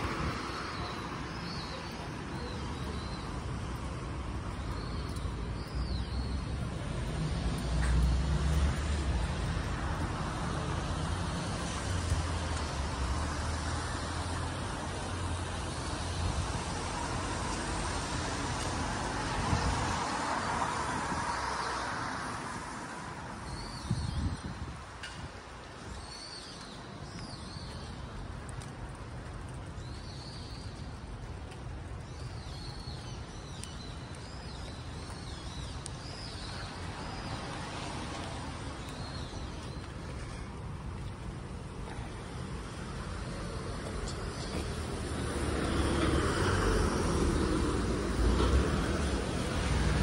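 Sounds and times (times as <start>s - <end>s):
city traffic: 0.0s - 50.0s.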